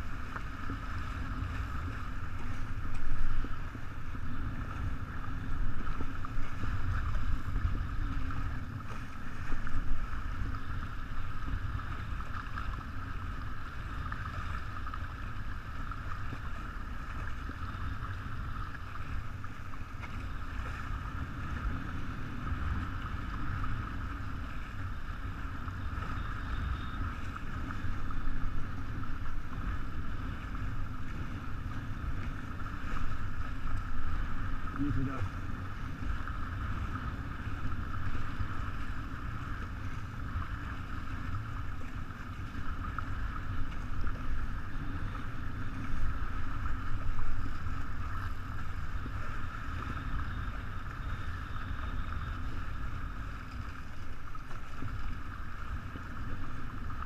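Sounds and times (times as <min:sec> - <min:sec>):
water rushing along hull: 0:00.0 - 0:57.0.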